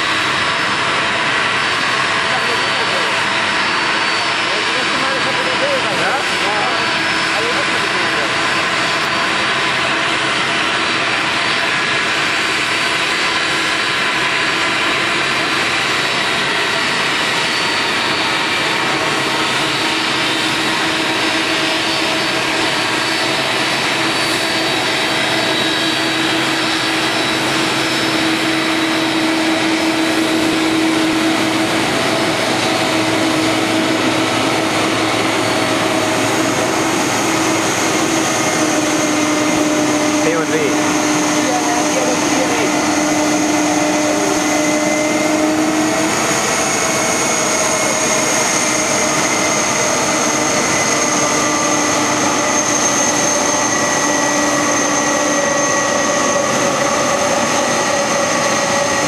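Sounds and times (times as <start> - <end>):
jet engines rushing and whining: 0.0 - 59.0.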